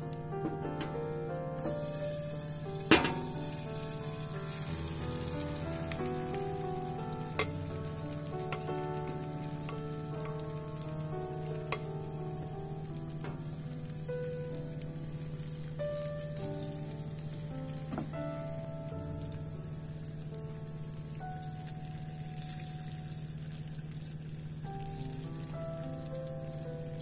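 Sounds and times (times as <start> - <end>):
batter sizzling in hot oil: 1.6 - 27.0.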